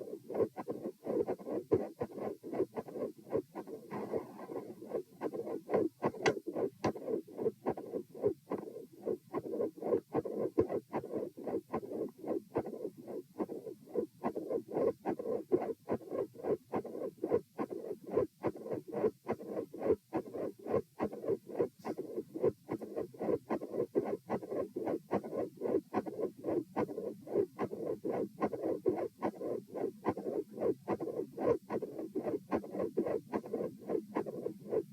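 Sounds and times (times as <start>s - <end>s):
heartbeat through a stethoscope: 0.0s - 34.9s.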